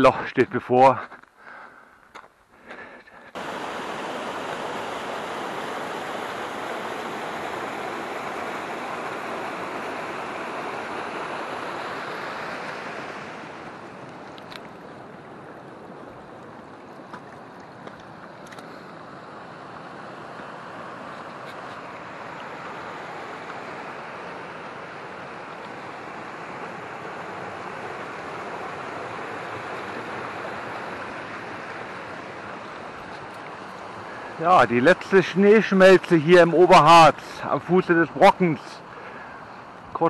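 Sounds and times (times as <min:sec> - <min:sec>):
mountain stream rushing: 0:00.0 - 0:01.2, 0:02.6 - 0:40.0.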